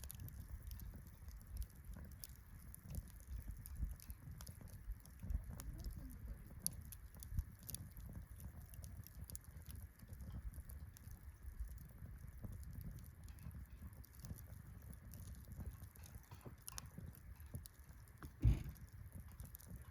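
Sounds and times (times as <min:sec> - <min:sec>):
campfire crackling: 0:00.0 - 0:19.9.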